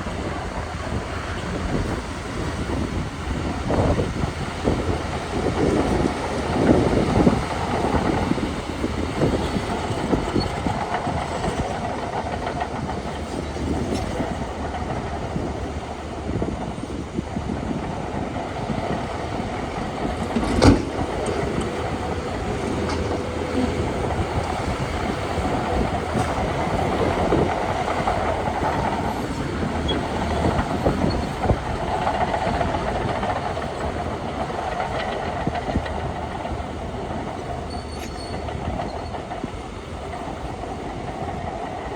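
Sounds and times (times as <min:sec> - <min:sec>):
diesel engine under load: 0:00.0 - 0:41.9
steel tracks clanking: 0:00.0 - 0:41.9.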